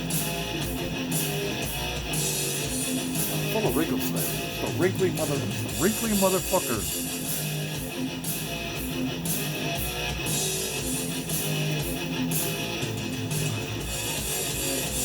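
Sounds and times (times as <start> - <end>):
guitar rock music: 0.0 - 15.0.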